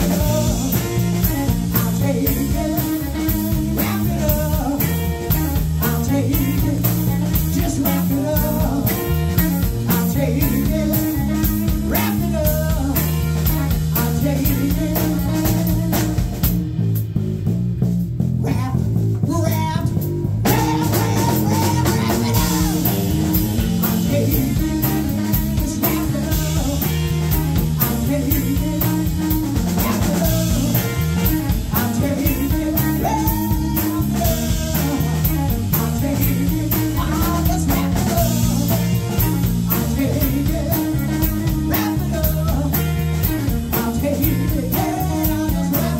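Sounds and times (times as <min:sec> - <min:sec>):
electric guitars: 0:00.0 - 0:17.2, 0:20.4 - 0:45.9
drum kit: 0:00.0 - 0:45.9.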